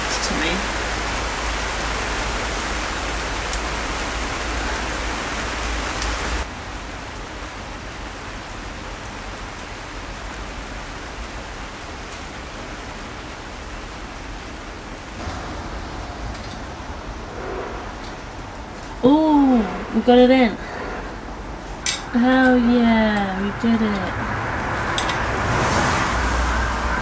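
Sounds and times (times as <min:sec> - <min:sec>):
rain on fabric shelter: 0:00.0 - 0:27.0.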